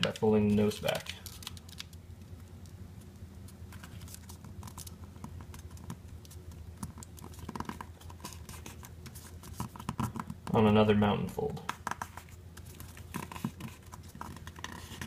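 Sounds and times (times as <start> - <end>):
paper rustling: 0.0 - 2.0, 3.4 - 10.3, 11.6 - 15.0.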